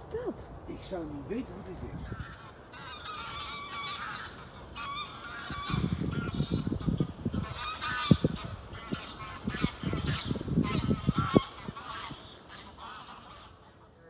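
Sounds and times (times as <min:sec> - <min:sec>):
geese honking: 0:01.4 - 0:14.0.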